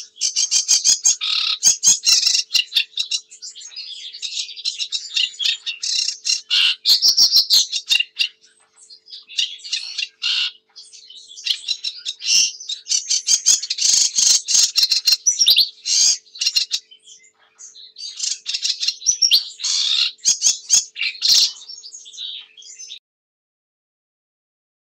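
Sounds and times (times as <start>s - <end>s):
warbler singing: 0.0s - 23.0s.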